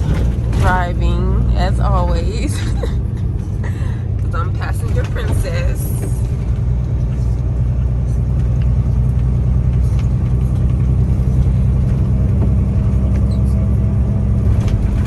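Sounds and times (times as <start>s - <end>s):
diesel truck engine droning: 0.0s - 15.0s
road noise: 0.0s - 15.0s.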